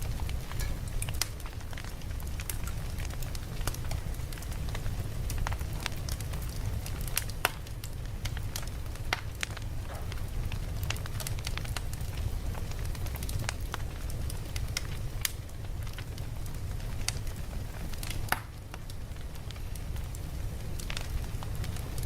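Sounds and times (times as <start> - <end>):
campfire crackling and popping: 0.0 - 22.0
low rumble of flames: 0.0 - 22.0.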